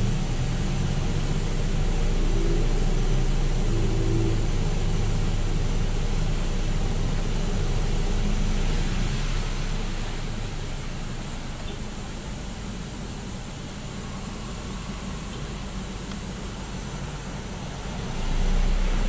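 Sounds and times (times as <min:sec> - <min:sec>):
automatic car wash running: 0:00.0 - 0:19.0
low car engine hum: 0:00.0 - 0:19.0.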